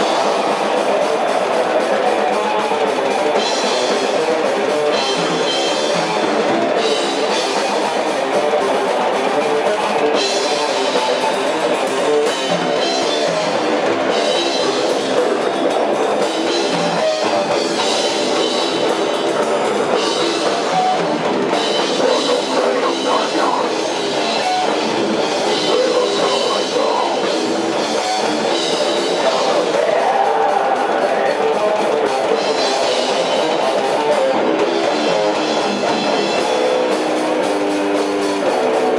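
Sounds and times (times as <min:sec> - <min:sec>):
rock music: 0:00.0 - 0:38.9.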